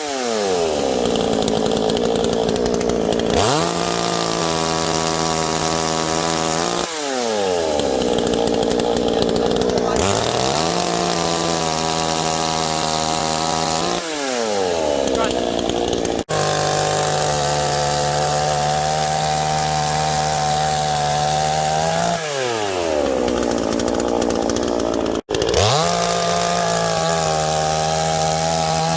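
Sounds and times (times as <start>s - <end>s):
chainsaw cutting wood: 0.0s - 28.9s.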